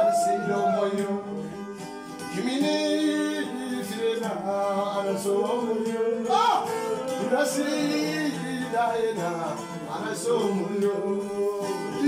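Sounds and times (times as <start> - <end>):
man singing: 0.0 - 12.0
strummed acoustic guitar: 0.0 - 12.0.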